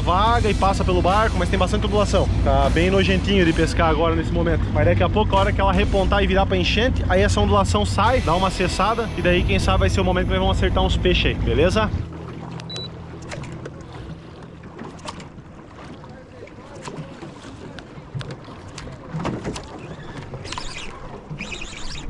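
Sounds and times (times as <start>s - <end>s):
low hum: 0.0s - 19.1s
water lapping against boat hull: 0.0s - 22.0s.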